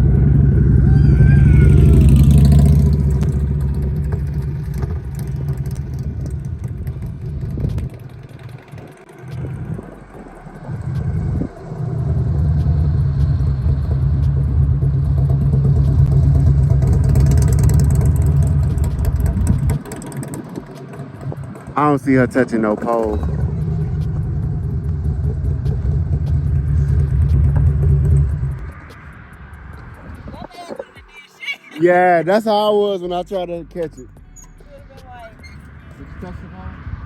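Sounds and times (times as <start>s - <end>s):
motorcycle engine rumbling: 0.0s - 31.0s, 31.9s - 37.0s.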